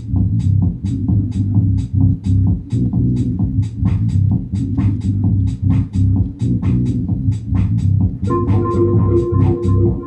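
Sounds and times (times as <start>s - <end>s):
music with deep bass: 0.0s - 10.0s.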